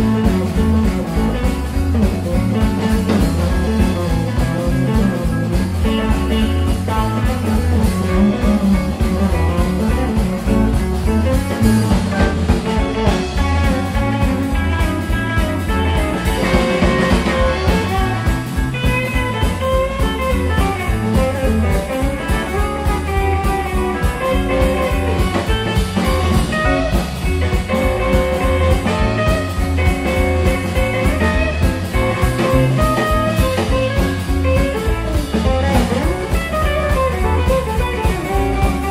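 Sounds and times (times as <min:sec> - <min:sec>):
drum kit steady beat: 0:00.0 - 0:38.9
electric bass: 0:00.0 - 0:38.9
electric guitar lead: 0:00.0 - 0:38.9.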